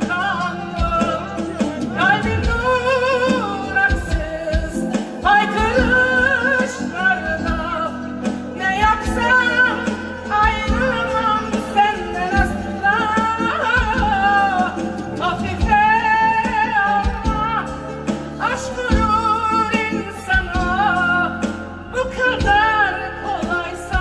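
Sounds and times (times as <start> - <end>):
instrumental ensemble: 0.0 - 24.0
woman singing with vibrato: 0.0 - 24.0.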